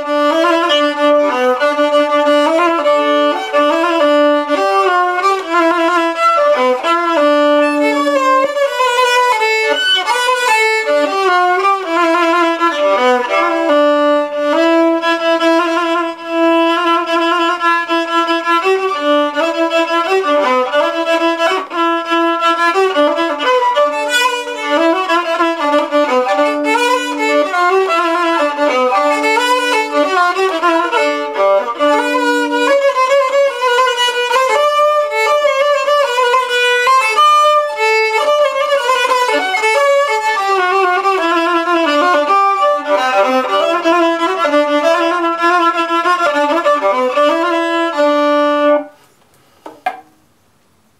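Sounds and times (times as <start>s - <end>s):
violin playing fast melody: 0.0s - 49.0s.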